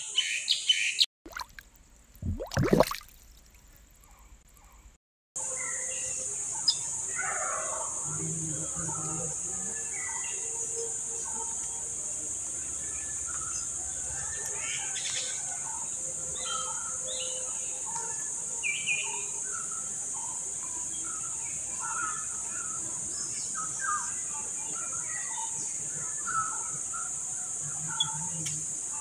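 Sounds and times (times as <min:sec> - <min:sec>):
insects droning: 0:05.4 - 0:29.0.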